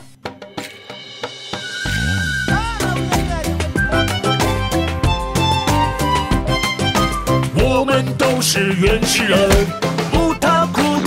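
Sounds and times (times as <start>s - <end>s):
bouncy beat with percussion: 0.0s - 11.0s
upbeat cartoon song intro: 1.4s - 11.0s.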